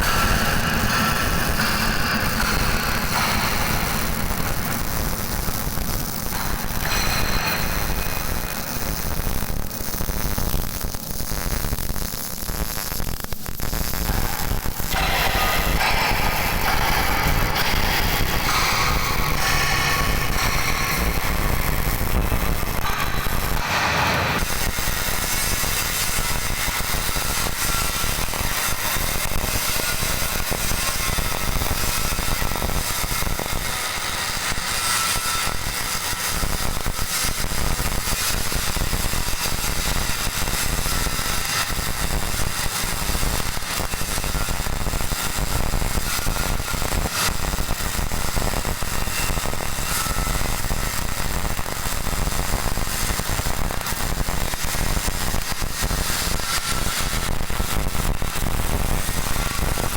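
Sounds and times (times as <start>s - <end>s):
welding arc crackling and buzzing: 0.0s - 59.9s.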